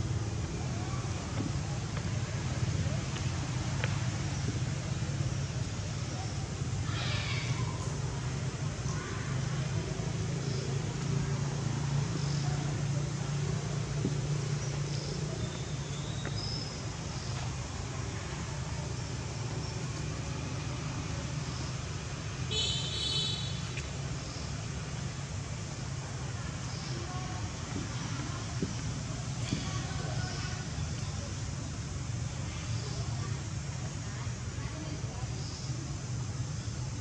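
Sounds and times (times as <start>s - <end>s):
low engine-like hum: 0.0s - 37.0s.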